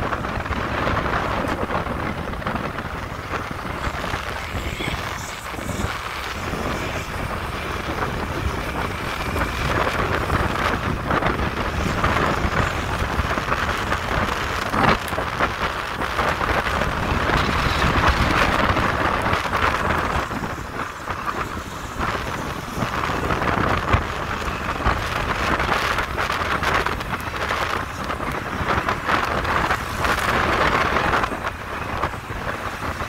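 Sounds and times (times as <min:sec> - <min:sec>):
engine and road rumble: 0:00.0 - 0:33.0
wind on microphone: 0:00.0 - 0:33.0.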